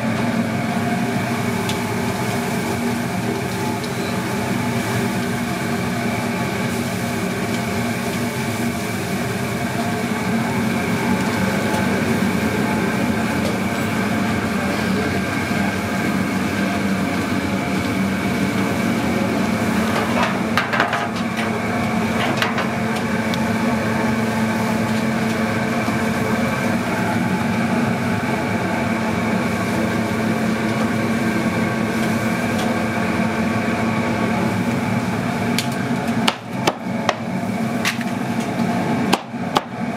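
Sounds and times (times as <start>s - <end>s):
kitchen equipment humming: 0.0s - 39.9s.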